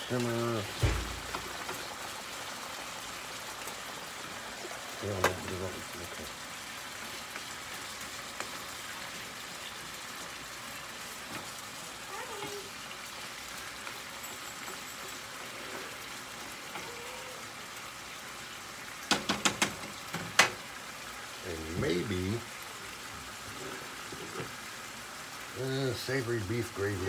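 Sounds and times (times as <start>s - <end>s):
meat sizzling in a frying pan: 0.0s - 27.0s.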